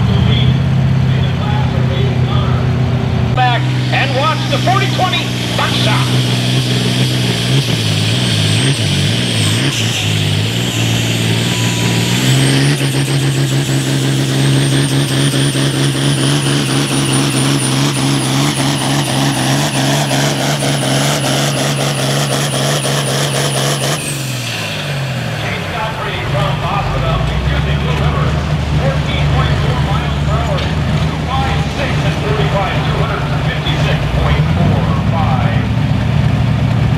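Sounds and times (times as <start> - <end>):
tractor diesel engine under load: 0.0 - 36.9.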